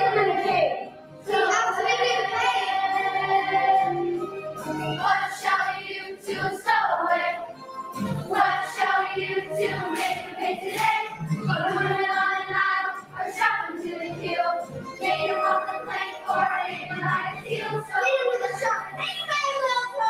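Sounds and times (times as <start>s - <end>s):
accompanying music: 0.0s - 20.0s
children singing: 0.0s - 20.0s.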